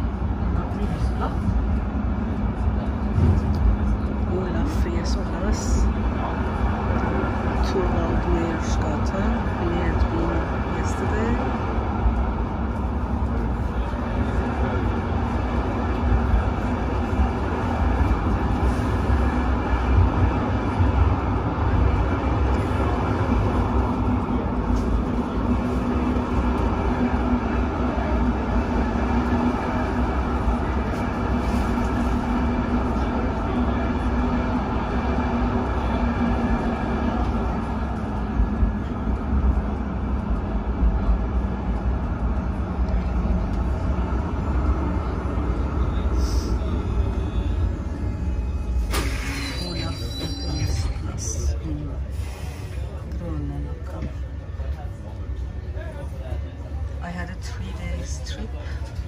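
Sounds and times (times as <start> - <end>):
tram rumbling on rails: 0.0 - 59.0.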